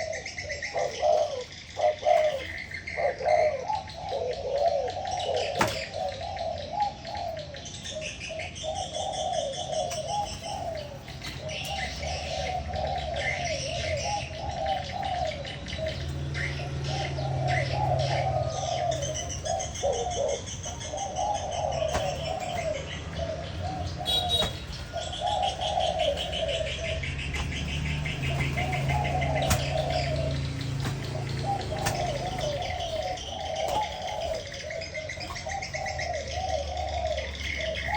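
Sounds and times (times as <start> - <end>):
doves cooing: 0.0 - 37.9
small birds chirping: 0.0 - 37.9.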